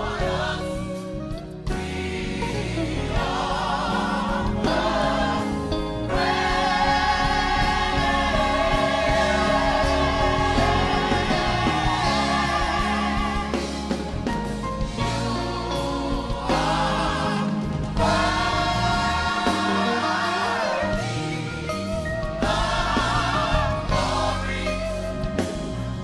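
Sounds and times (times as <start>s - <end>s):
backing music: 0.0s - 26.0s
gospel choir singing: 0.0s - 26.0s.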